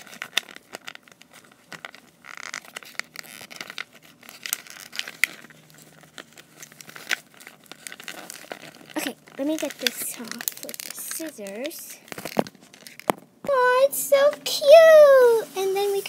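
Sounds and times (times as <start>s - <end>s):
plastic wrapper crinkling: 0.0s - 16.0s.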